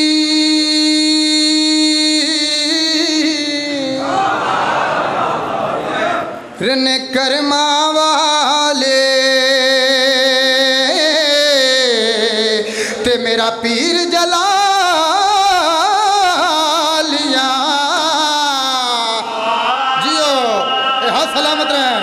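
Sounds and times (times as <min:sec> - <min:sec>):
man singing into a microphone: 0:00.0 - 0:04.0, 0:06.6 - 0:22.0.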